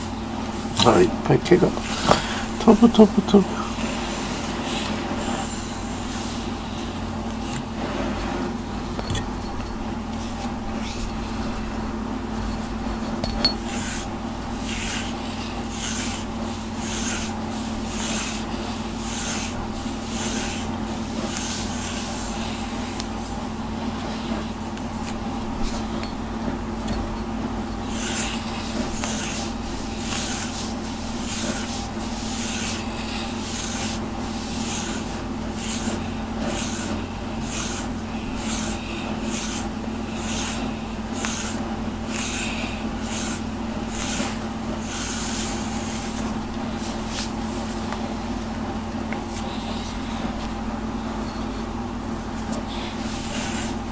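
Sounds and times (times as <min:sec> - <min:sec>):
brush strokes through cat fur: 0:10.1 - 0:53.9.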